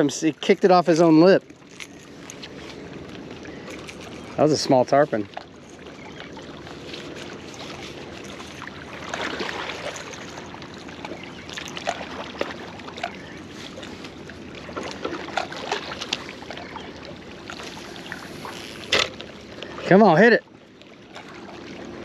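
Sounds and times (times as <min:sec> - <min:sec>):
water lapping on shore: 0:00.0 - 0:22.0.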